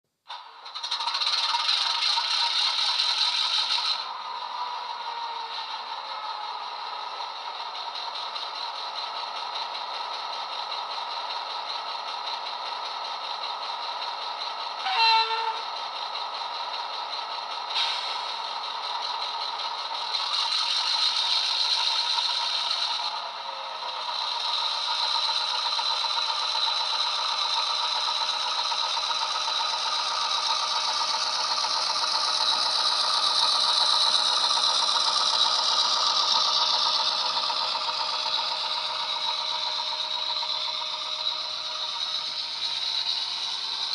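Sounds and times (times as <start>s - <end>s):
model diesel engine sound: 0.1s - 43.9s.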